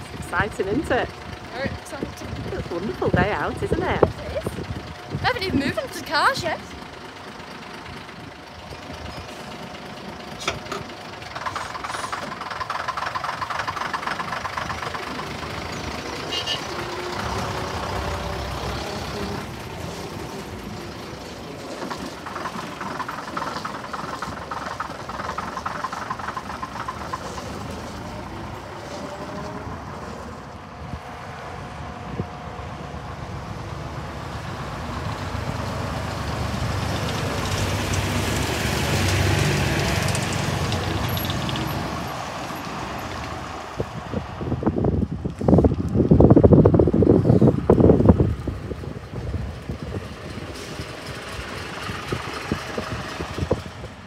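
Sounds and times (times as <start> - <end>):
diesel bus engines pulling away: 0.0 - 54.0.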